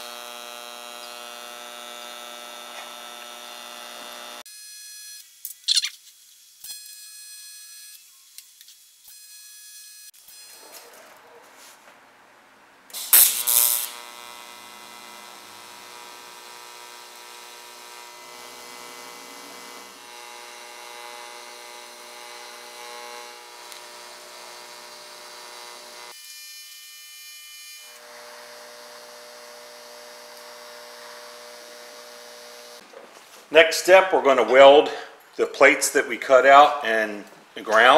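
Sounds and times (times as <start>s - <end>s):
welding arc buzzing hum: 0.0s - 11.1s, 12.9s - 32.8s.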